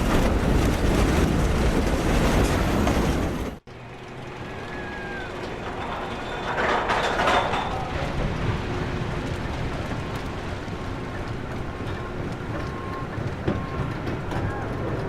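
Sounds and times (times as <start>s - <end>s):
roller coaster rattling on track: 0.0s - 15.0s.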